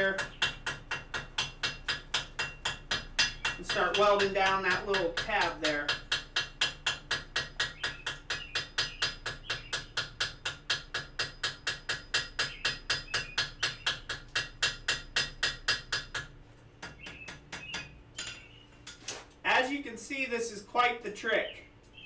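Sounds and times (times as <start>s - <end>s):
hammer ringing on hot steel: 0.2s - 18.5s.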